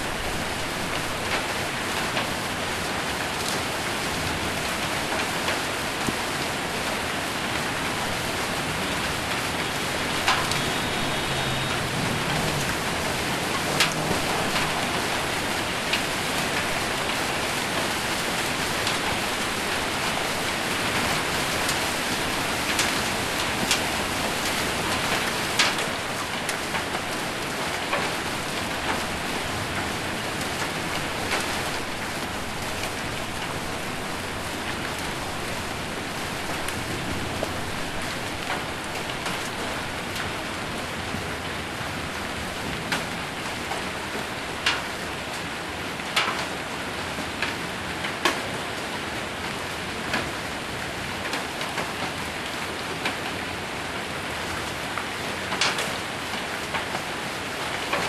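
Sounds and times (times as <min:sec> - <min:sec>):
rain and hail on a metal roof: 0:00.0 - 0:58.0.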